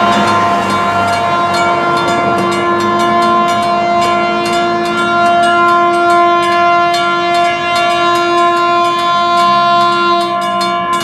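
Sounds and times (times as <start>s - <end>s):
crossing bells clanging: 0.0s - 11.0s
locomotive horn chord: 0.0s - 11.0s.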